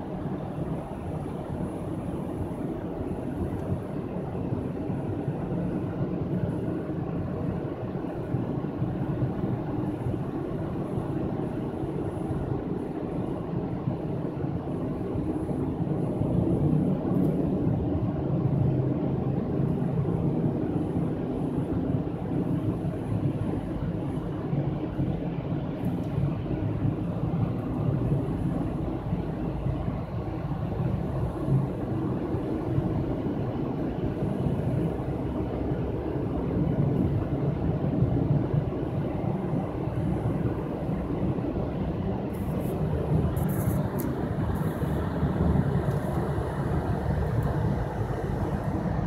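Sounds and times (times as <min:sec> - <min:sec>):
car road and engine rumble: 0:00.0 - 0:49.0.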